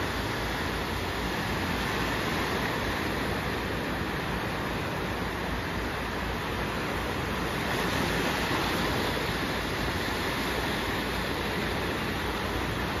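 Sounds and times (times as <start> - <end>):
waves breaking on shore: 0.0 - 13.0.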